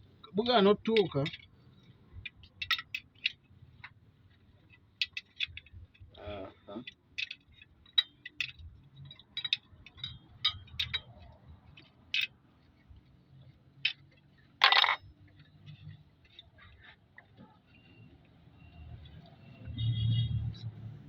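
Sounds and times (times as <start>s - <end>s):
metallic clinks of tools and parts: 0.2s - 20.8s.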